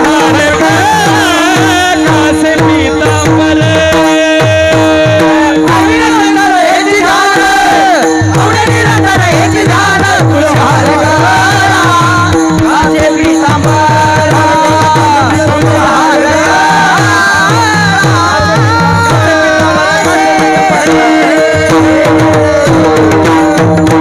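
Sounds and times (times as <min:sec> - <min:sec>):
devotional singing: 0:00.0 - 0:24.0
harmonium drone: 0:00.0 - 0:24.0.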